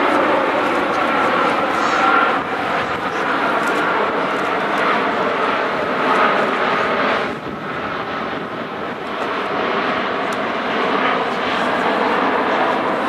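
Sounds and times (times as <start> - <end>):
jet airliner flying past: 0.0 - 13.0.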